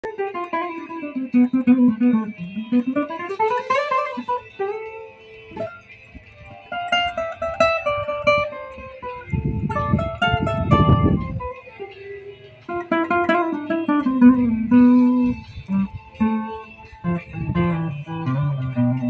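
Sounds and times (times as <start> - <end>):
fingerstyle acoustic guitar: 0.0 - 19.0.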